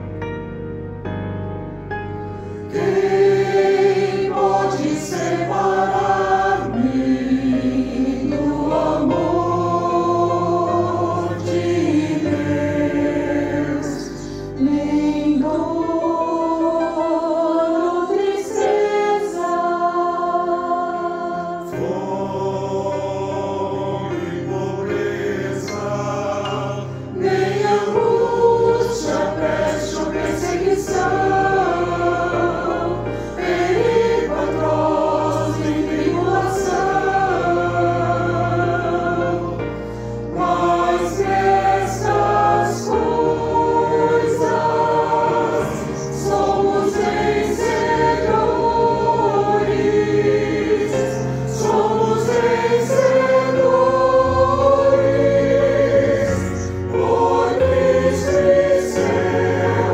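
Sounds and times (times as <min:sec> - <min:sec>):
mixed choir singing: 0:02.5 - 0:59.9.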